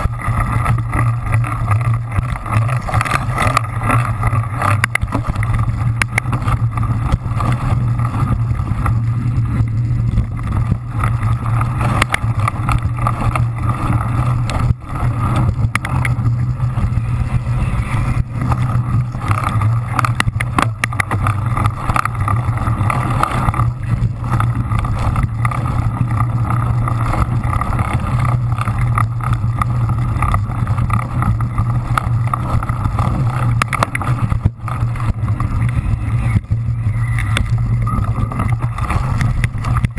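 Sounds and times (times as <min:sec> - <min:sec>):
bike knocks and rattles: 0:00.0 - 0:39.9
wind and tyres rumbling: 0:00.0 - 0:39.9.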